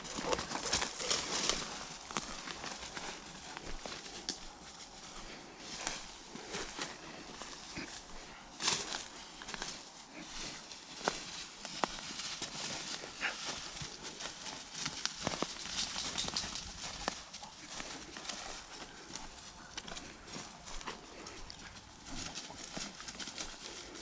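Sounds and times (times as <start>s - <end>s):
twigs clicking and snapping: 0.0s - 5.0s, 5.8s - 24.0s
footsteps through dry leaves: 0.0s - 24.0s.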